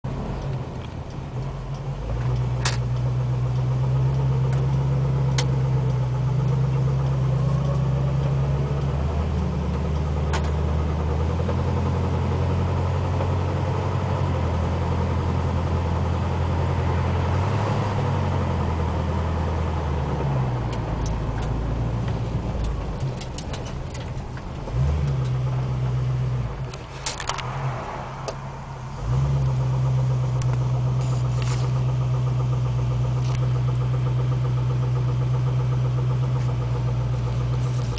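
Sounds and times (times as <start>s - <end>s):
engine drone: 0.1s - 37.9s.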